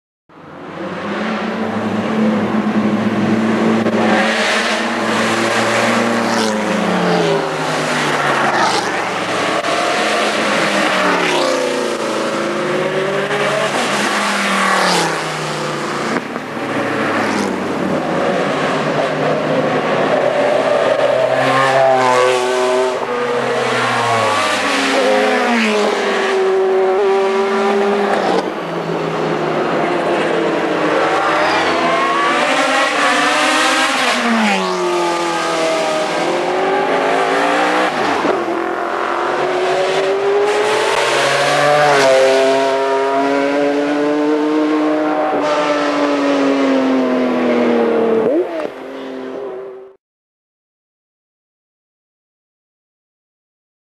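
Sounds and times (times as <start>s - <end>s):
race car engines revving past: 0.4s - 50.0s.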